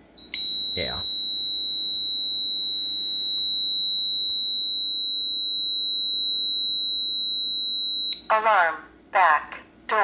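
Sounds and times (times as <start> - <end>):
alarm sounder steady high tone: 0.2 - 8.3.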